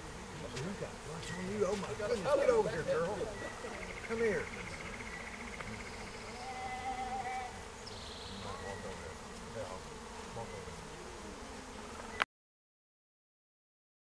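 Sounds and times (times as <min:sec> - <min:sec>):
bees buzzing: 0:00.0 - 0:12.3.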